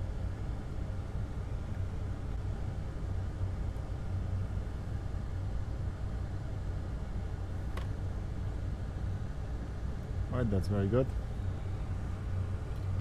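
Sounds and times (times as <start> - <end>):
equipment hum with hiss: 0.0 - 13.0.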